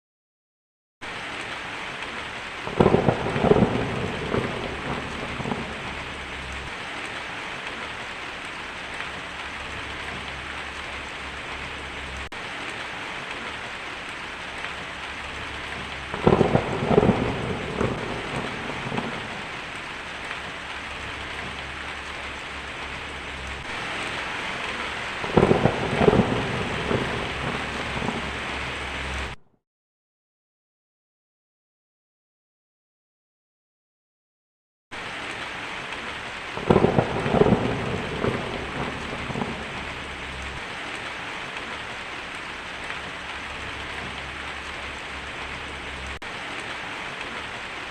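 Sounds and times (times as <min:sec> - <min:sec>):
heavy rain on a tin roof: 0:01.0 - 0:29.4, 0:34.9 - 0:47.9
thunder rumbling: 0:02.2 - 0:29.4, 0:35.9 - 0:47.9.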